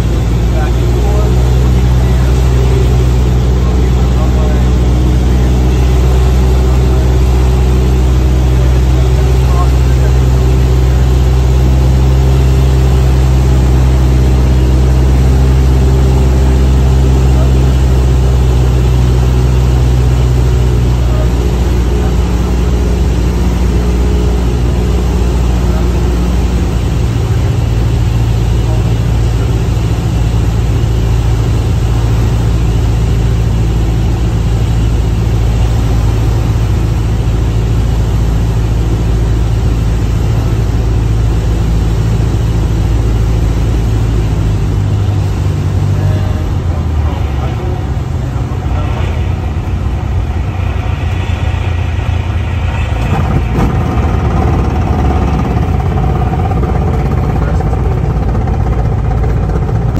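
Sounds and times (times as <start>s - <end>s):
airplane engine drone in cabin: 0.0s - 59.9s.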